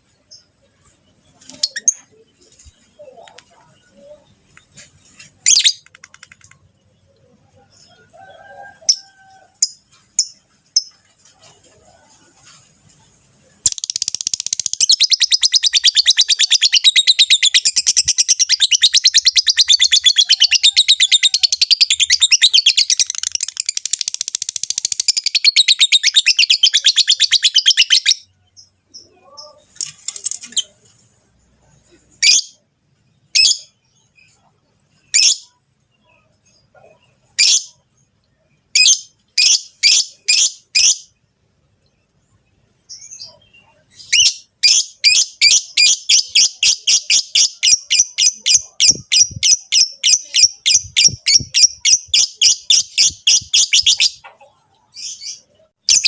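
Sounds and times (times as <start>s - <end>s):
birds chirping and chattering: 0.0s - 56.0s.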